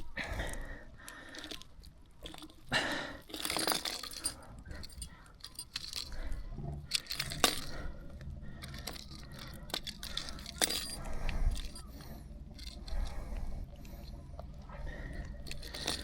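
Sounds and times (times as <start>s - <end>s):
fishing gear clinking on rocks: 0.0s - 14.2s, 14.9s - 16.0s.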